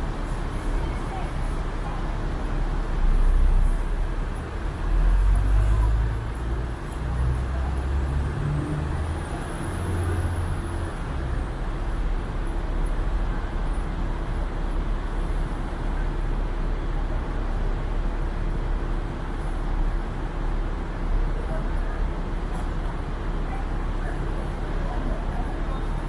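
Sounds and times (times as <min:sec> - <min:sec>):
heavy vehicle engine rumble: 0:00.0 - 0:26.0
street traffic: 0:00.0 - 0:26.0.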